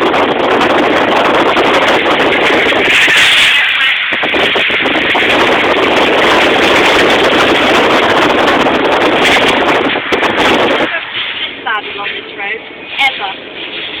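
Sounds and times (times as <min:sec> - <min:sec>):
water rushing against car: 0:00.0 - 0:14.0.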